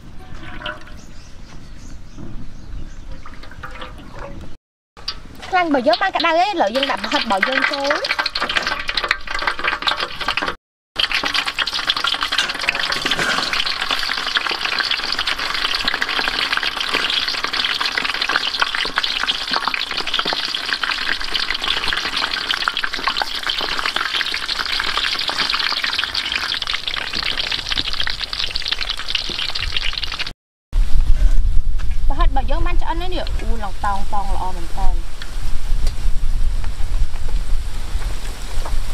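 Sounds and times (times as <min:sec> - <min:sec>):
hot oil crackling and sizzling: 0:05.0 - 0:31.0, 0:31.6 - 0:38.9.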